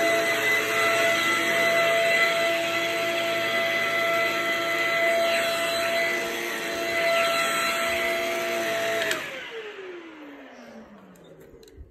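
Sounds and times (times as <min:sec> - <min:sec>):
stick vacuum motor whine: 0:00.0 - 0:11.9.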